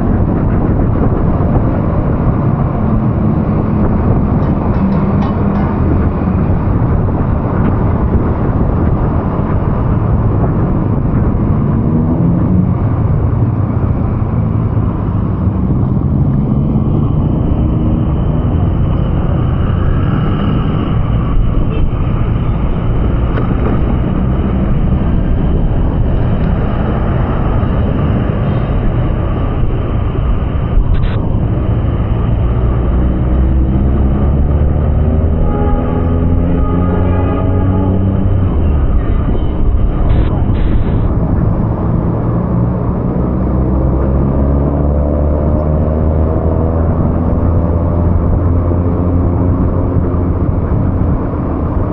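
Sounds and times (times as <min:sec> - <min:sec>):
road noise: 0:00.0 - 0:51.9
vehicle engine: 0:00.0 - 0:51.9.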